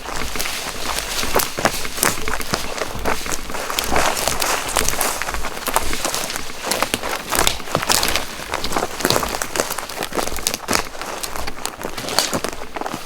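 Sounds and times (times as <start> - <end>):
footsteps crunching through dry brush: 0.0 - 13.0.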